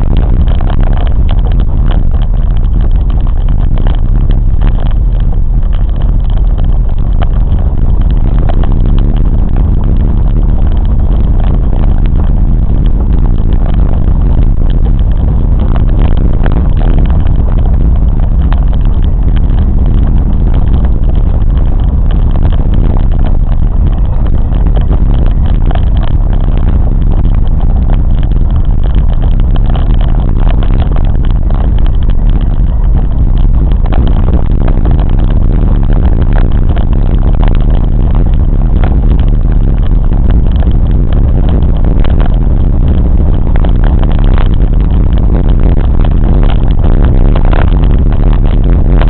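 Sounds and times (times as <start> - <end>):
train rumbling: 0.0 - 45.2
clicks and rattles: 0.0 - 48.8.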